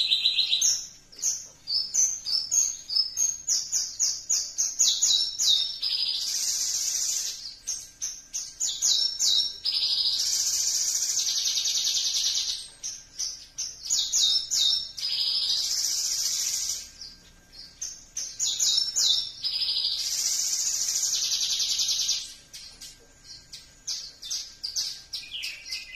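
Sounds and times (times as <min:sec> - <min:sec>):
bird singing high trill: 0:00.0 - 0:25.9.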